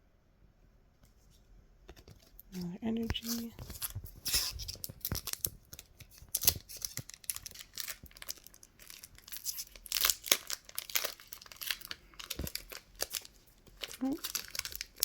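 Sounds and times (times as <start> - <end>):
foil wrapper tearing and crinkling: 2.6 - 15.0.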